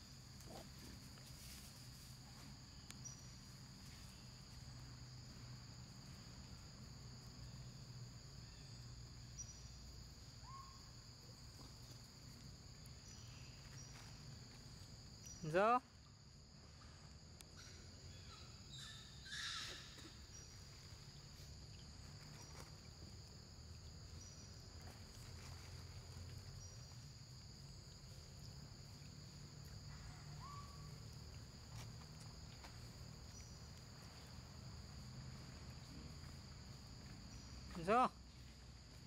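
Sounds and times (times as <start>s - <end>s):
forest insects droning and chirping: 0.0s - 39.0s.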